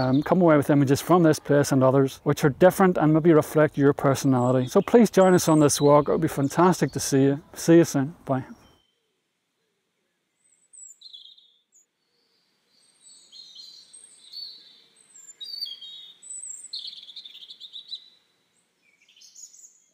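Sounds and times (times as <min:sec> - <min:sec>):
small birds chirping: 0:00.0 - 0:09.1, 0:10.3 - 0:19.9
faint outdoor background noise: 0:00.0 - 0:19.9.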